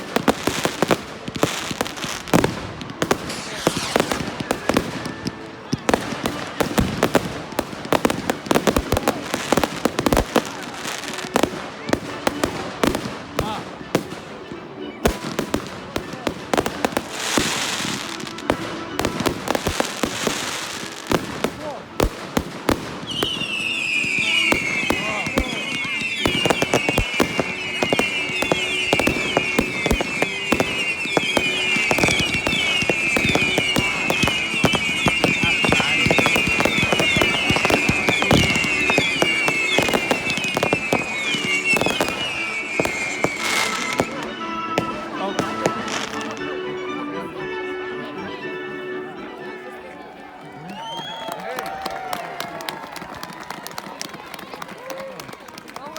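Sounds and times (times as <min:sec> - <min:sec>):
fireworks bangs and pops: 0:00.0 - 0:46.5.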